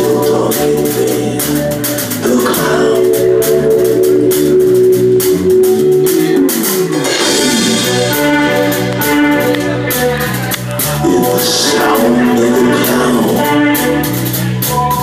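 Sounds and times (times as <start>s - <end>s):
bass guitar: 0.0s - 15.0s
drum kit beat: 0.0s - 15.0s
electric organ chords: 0.0s - 15.0s.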